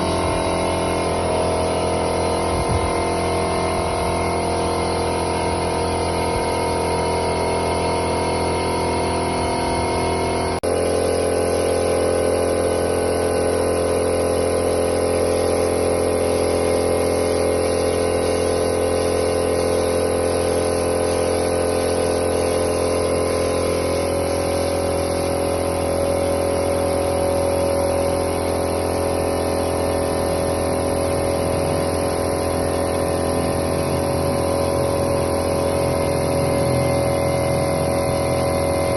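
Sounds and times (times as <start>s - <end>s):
machine humming: 0.0s - 38.9s.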